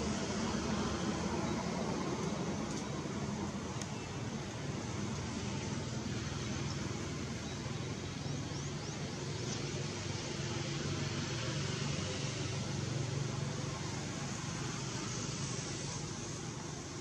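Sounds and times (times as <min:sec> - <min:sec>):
even hiss over low hum: 0:00.0 - 0:17.0.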